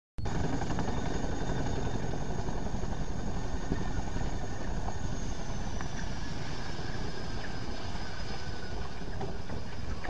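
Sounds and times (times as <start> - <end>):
helicopter rotor chop: 0.2 - 10.0
turbine whine: 0.2 - 10.0.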